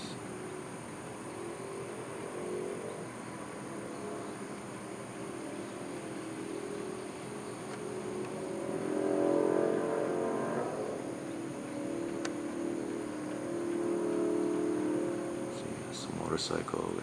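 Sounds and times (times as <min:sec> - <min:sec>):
distant highway traffic: 0:00.0 - 0:17.0
motorcycle passing: 0:00.0 - 0:17.0.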